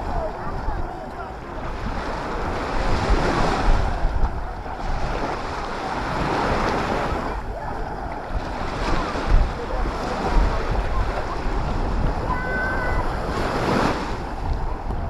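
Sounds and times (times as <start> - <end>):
sea waves breaking on shore: 0.0 - 15.0
wind rumbling on microphone: 0.0 - 15.0.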